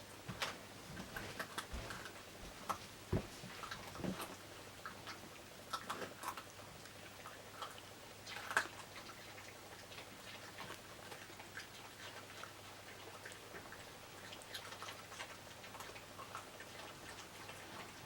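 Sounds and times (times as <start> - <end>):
dogs chewing vegetables: 0.0 - 18.0.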